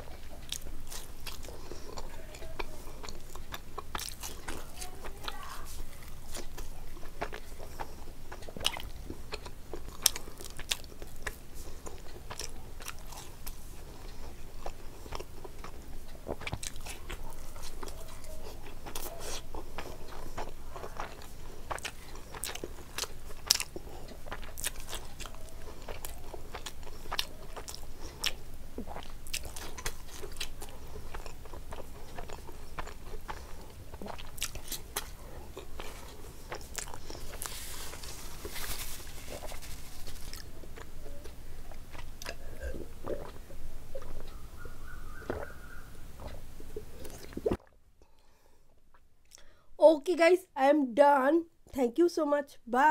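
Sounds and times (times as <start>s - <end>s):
chewing and wet mouth smacks: 0.0s - 48.3s, 48.9s - 49.5s.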